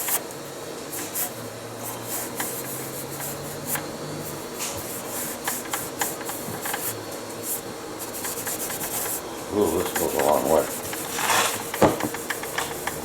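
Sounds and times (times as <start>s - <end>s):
abrasive pad scrubbing metal: 2.0s - 13.0s.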